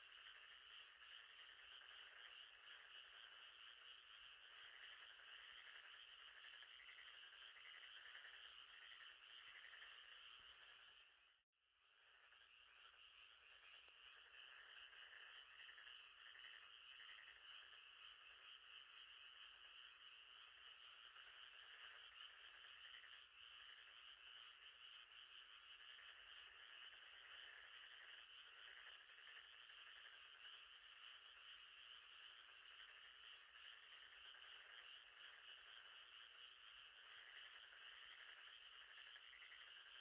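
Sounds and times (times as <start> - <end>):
frogs trilling: 0.0 - 11.3, 12.0 - 40.0
insects trilling: 0.0 - 11.3, 12.0 - 40.0.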